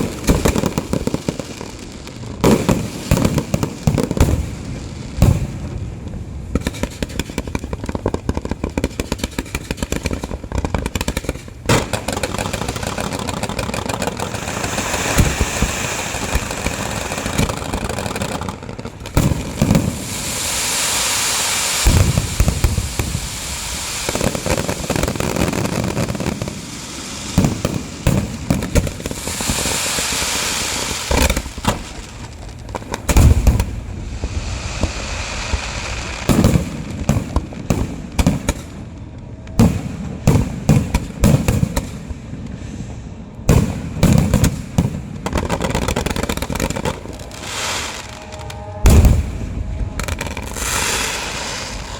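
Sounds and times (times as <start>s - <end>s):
fireworks booms: 0.0s - 51.9s
fireworks crackling and popping: 0.0s - 51.9s.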